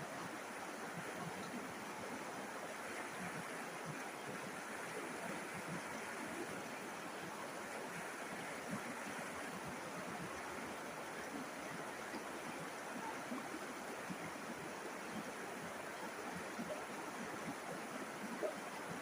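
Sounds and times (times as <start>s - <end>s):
river water rushing over stones: 0.0s - 19.0s.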